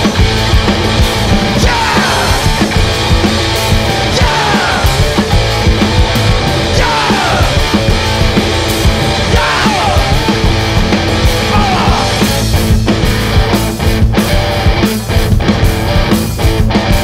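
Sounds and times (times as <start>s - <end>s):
loud live rock music: 0.0s - 17.0s.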